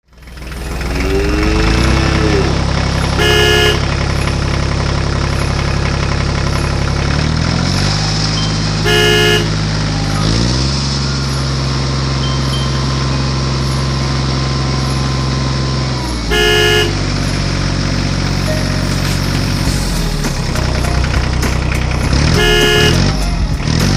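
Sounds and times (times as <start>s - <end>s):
tractor diesel engine running: 0.0s - 23.9s
horn honks: 0.3s - 5.9s, 6.5s - 19.8s, 22.0s - 23.9s.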